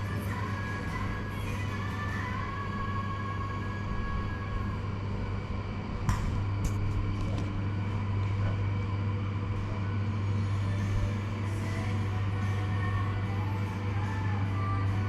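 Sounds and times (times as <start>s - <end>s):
low electric buzz: 0.0s - 15.0s.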